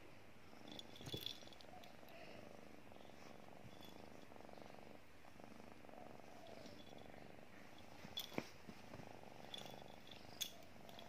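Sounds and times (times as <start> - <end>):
kitten purring: 0.4 - 11.0.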